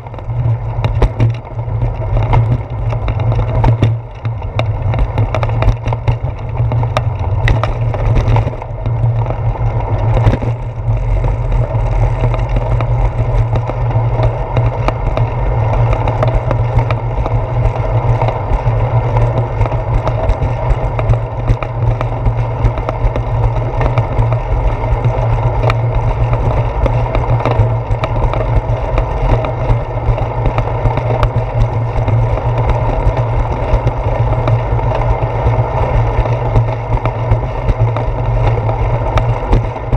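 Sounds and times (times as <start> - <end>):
bicycle road rumble: 0.0 - 39.9
wind noise: 0.0 - 39.9.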